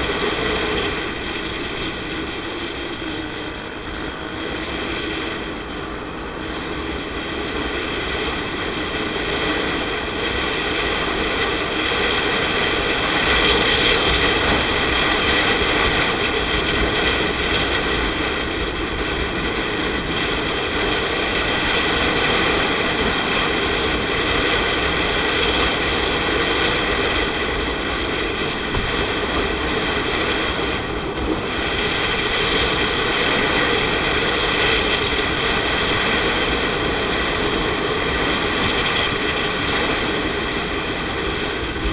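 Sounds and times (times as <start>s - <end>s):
wind and road noise: 0.0s - 41.9s.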